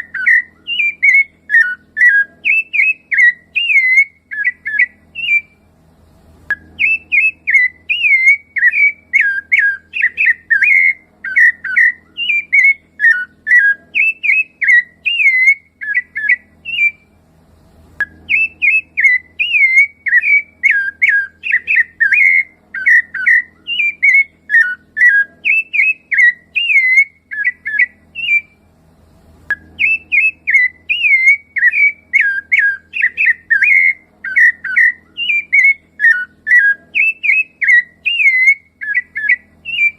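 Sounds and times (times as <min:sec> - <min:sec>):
thrush singing whistled phrases: 0:00.0 - 0:05.6, 0:06.5 - 0:17.1, 0:18.1 - 0:28.6, 0:29.5 - 0:39.9.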